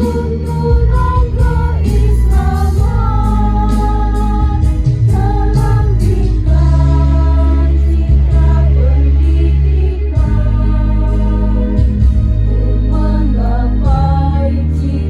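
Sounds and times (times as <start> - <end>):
choir singing: 0.0 - 15.0
instrumental accompaniment: 0.0 - 15.0.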